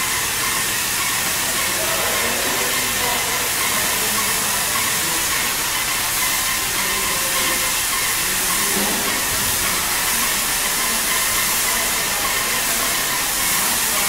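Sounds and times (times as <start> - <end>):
paint spray gun hissing: 0.0 - 14.0.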